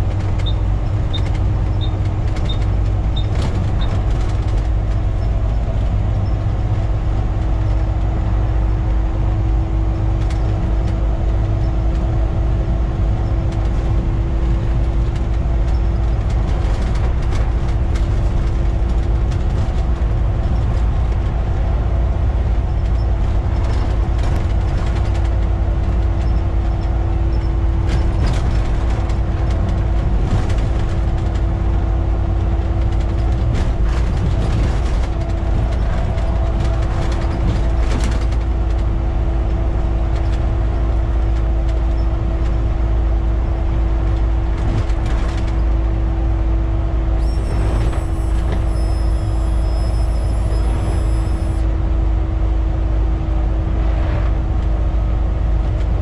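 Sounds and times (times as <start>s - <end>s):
bus diesel engine rumble: 0.0s - 56.0s.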